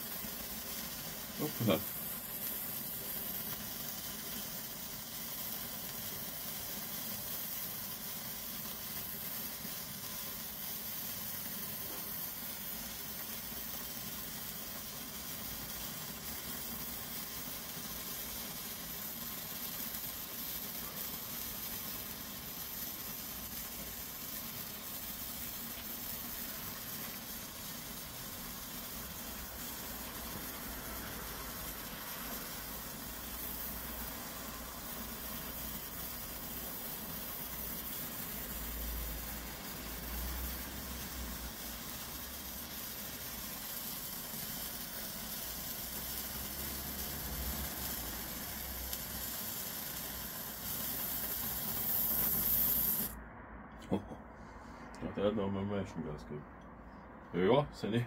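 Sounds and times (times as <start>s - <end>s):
flare fizzing hiss: 0.0s - 53.2s.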